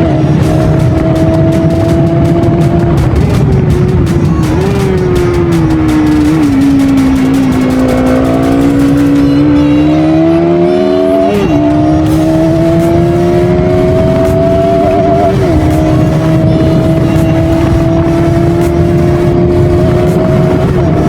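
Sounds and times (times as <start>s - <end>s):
motorcycle engine pulling: 0.4s - 21.0s.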